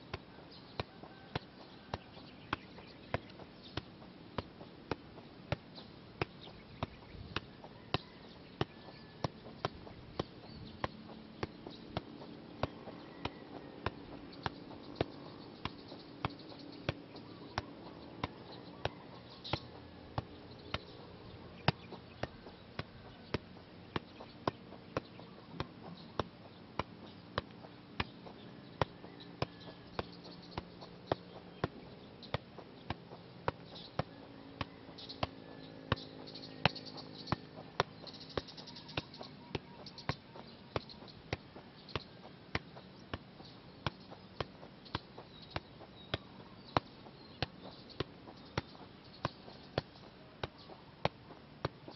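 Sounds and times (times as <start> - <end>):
soccer ball thuds: 0.0 - 51.9.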